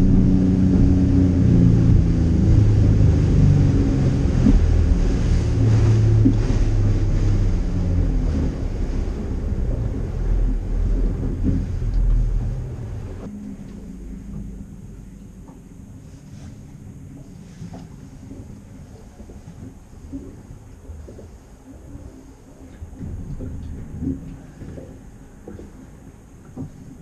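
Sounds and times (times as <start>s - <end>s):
boat engine running: 0.0s - 27.0s
water rushing along hull: 0.0s - 27.0s.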